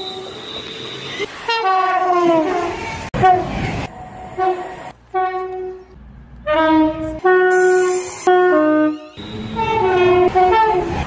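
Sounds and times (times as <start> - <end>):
train horn blasts: 0.0 - 3.6, 4.4 - 11.0
passing train rumble: 0.0 - 11.0.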